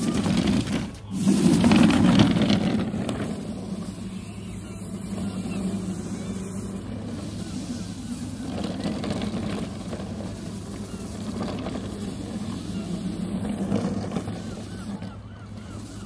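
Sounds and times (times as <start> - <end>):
birds calling faintly: 0.0 - 16.0
electric motors humming: 0.0 - 16.0.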